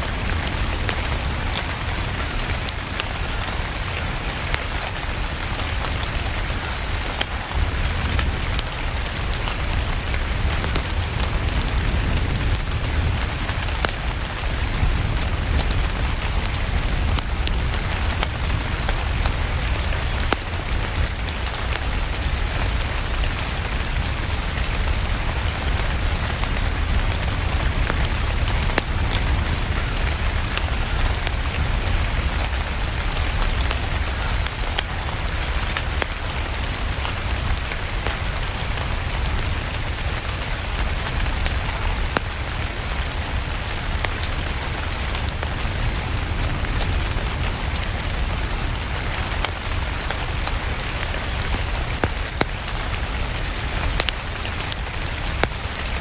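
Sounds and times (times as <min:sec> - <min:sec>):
steady rain hiss: 0:00.0 - 0:56.0
wood fire crackling: 0:00.0 - 0:56.0.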